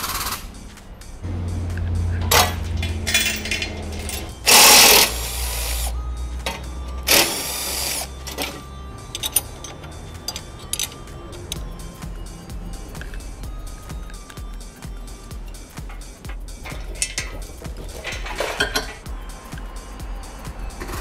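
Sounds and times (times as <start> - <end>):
low motor hum: 0.7 - 21.0.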